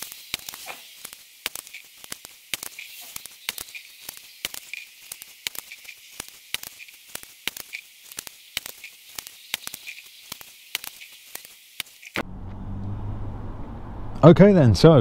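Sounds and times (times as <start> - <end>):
thin hiss: 0.0 - 12.2.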